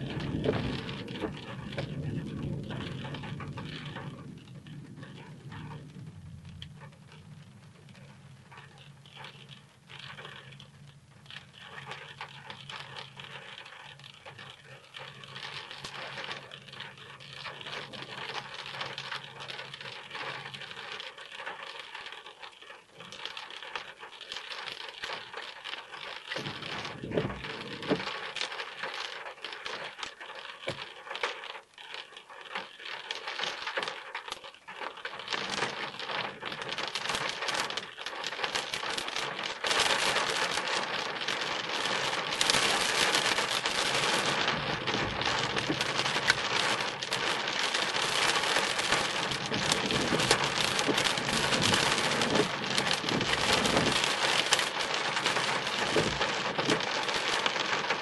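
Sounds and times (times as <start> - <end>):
rain on car roof: 0.0 - 58.0.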